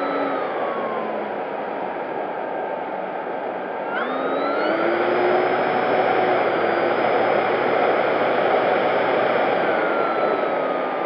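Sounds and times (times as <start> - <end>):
electric motor and propeller whining: 0.0 - 1.6, 3.8 - 11.0.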